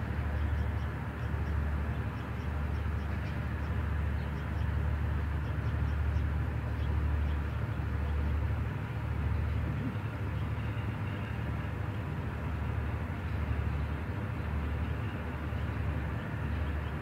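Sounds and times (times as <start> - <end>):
distant motor rumble: 0.0 - 17.0.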